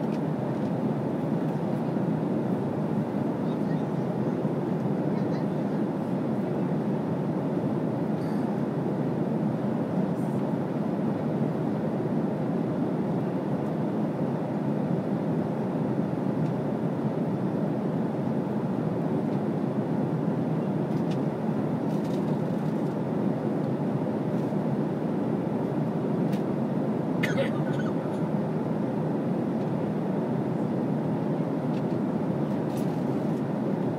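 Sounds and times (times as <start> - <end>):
airliner cabin noise: 0.0 - 33.9.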